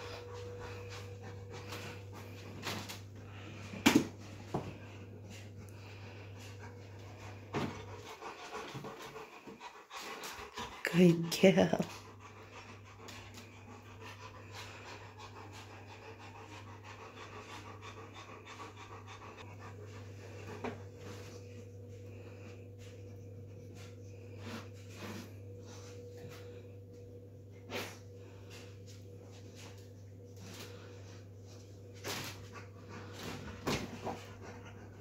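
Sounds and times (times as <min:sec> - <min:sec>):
dog panting: 0:00.0 - 0:26.6, 0:27.5 - 0:35.0.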